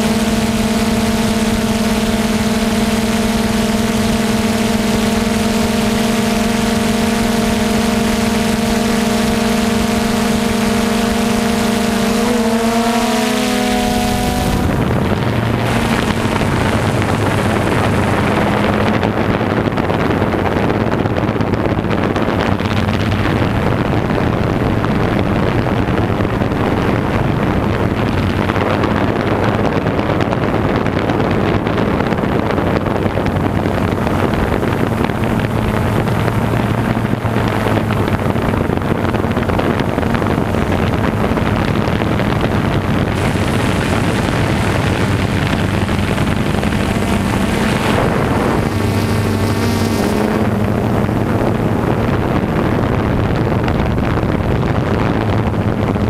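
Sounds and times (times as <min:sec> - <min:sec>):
loud rushing noise: 0:00.0 - 0:29.2, 0:31.8 - 0:56.0
low engine hum: 0:00.0 - 0:56.0.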